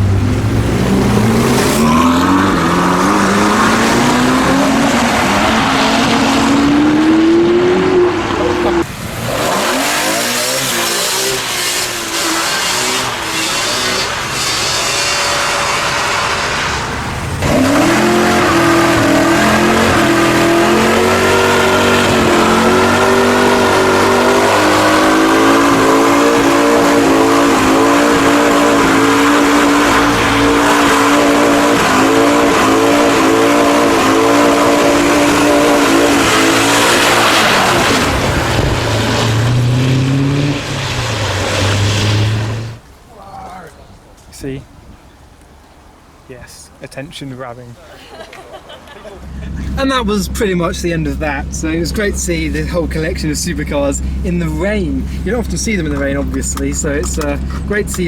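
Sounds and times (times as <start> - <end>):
car engine revving high: 0.0 - 42.8, 49.2 - 58.0
tyres squealing: 0.0 - 45.4, 49.0 - 58.0.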